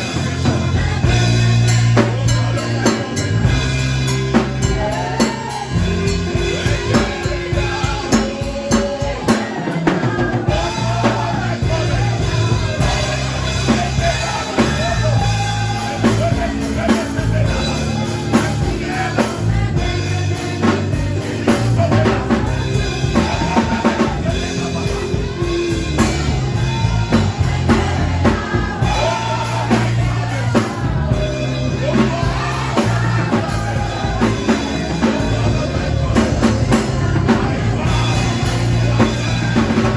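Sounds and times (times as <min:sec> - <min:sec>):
band music with singing: 0:00.0 - 0:39.9.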